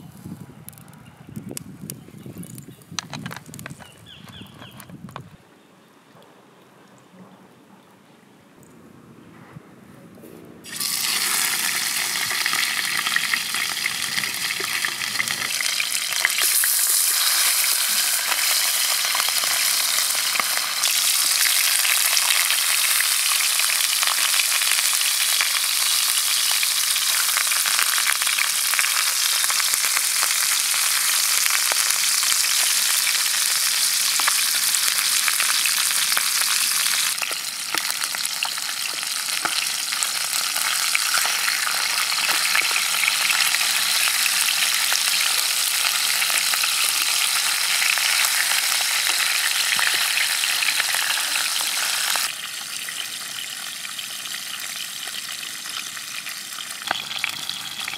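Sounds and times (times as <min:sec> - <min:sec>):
fish sizzling in hot oil: 0:10.6 - 0:57.9.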